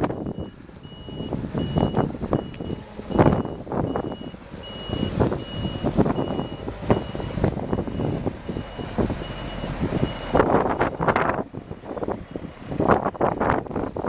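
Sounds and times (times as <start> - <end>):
truck reversing alarm beeping: 0.0 - 11.4, 12.2 - 13.3
heavy truck engine rumble: 0.0 - 14.0.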